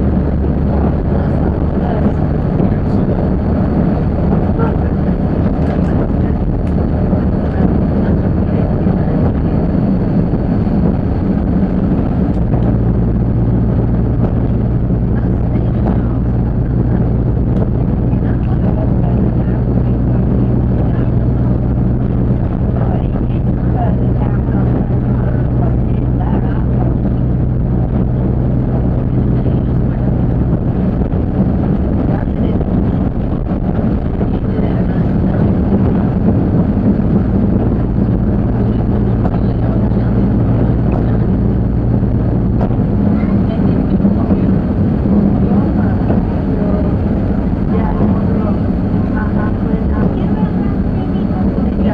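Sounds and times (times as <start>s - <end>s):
diesel engine running: 0.0s - 51.9s
railbus rumble: 0.0s - 51.9s.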